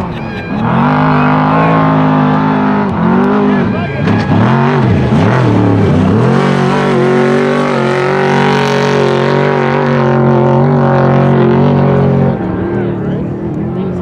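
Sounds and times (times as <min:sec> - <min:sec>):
truck engine at high revs: 0:00.0 - 0:14.0.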